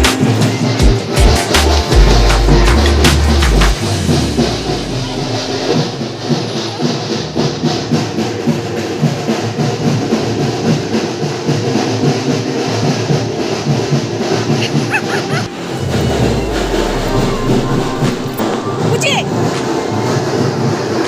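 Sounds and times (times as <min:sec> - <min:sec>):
background music with drum beat: 0:00.0 - 0:21.0.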